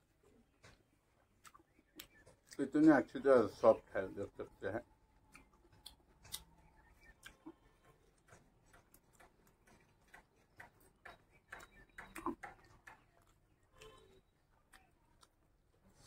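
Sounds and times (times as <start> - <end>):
person chewing food: 0.0 - 2.7, 5.0 - 16.0.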